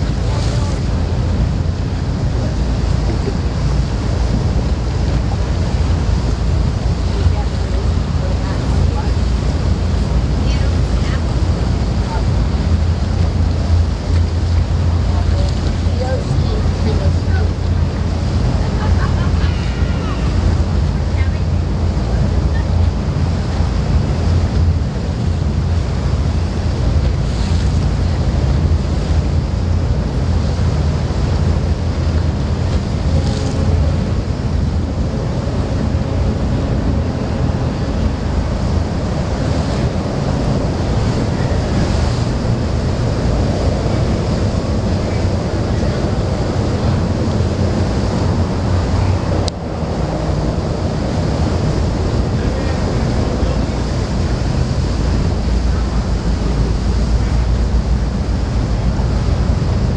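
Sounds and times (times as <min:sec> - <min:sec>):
steady low rumble: 0:00.0 - 0:59.9
water rushing along boat hull: 0:00.0 - 0:59.9
wind buffeting microphone: 0:00.0 - 0:59.9.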